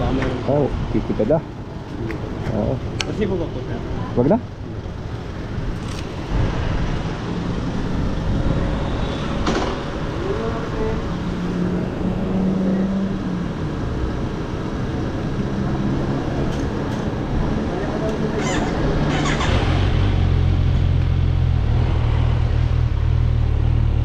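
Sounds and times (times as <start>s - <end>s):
vehicle engines rumbling: 0.0s - 24.0s.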